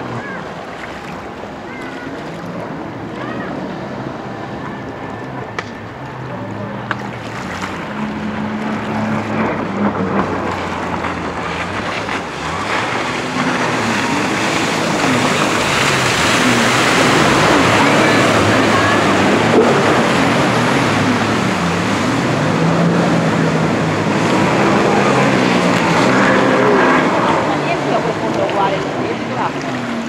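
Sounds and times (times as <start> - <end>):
personal watercraft engine revving: 0.0 - 30.0.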